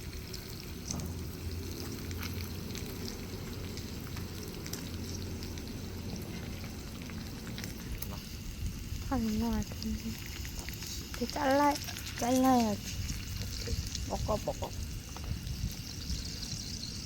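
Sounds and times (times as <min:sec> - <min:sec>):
meat sizzling in hot fat: 0:00.0 - 0:17.0.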